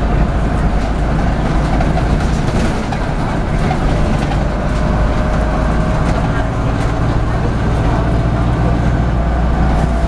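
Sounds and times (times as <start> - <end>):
bus diesel engine rumble: 0.0 - 10.0
road and body noise: 0.0 - 10.0.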